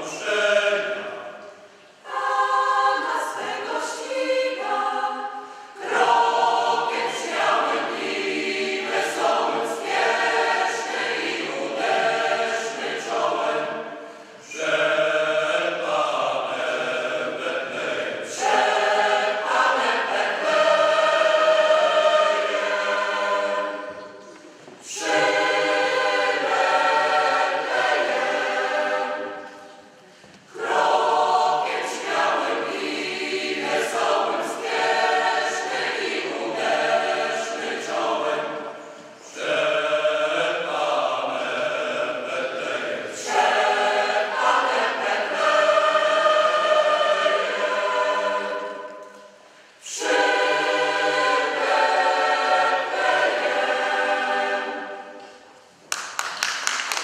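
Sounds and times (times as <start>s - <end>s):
mixed choir singing unaccompanied: 0.0s - 55.7s.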